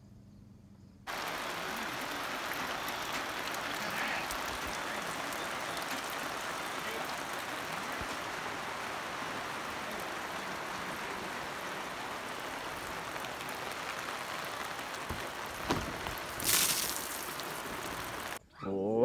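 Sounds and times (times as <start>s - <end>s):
rain on a canopy tent: 1.1s - 18.4s
water running off: 1.1s - 18.4s.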